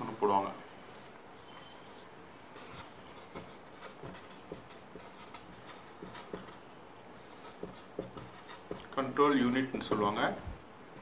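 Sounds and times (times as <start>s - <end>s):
marker squeaking on whiteboard: 0.9s - 10.4s.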